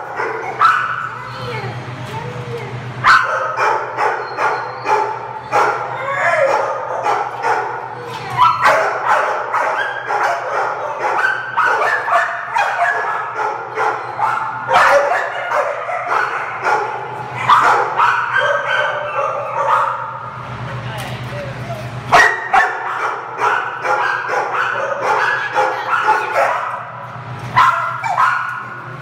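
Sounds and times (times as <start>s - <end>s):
dogs barking and yipping: 0.0s - 1.6s, 3.0s - 20.3s, 21.8s - 29.0s.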